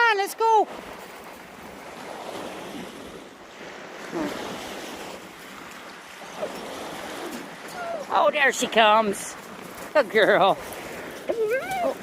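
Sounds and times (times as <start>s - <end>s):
ocean surf washing on beach: 0.0s - 12.0s
wind buffeting microphone: 0.7s - 12.0s.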